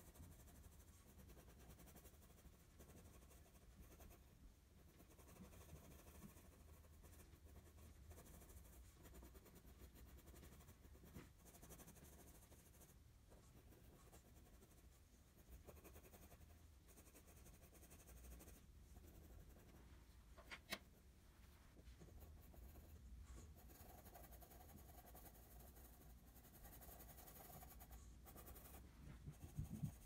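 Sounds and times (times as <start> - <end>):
pencil scratching on paper: 0.0 - 19.9, 21.8 - 30.0.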